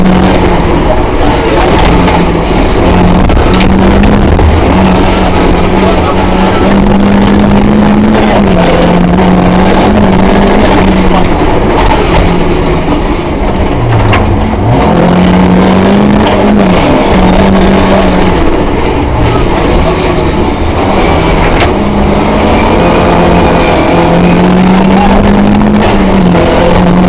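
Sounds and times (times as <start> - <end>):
rally car engine revving hard: 0.0 - 27.0.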